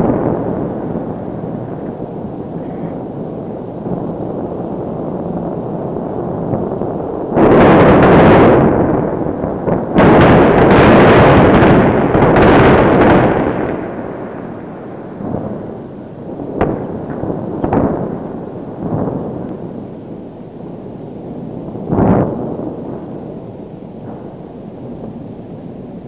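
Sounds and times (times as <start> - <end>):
heavy explosions rumbling: 0.0 - 26.0.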